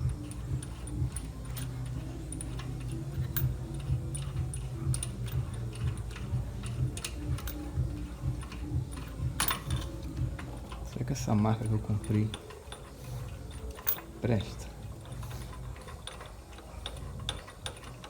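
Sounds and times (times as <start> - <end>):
low steady hum: 0.0 - 18.0
ratchet wrench clicking: 0.0 - 18.0.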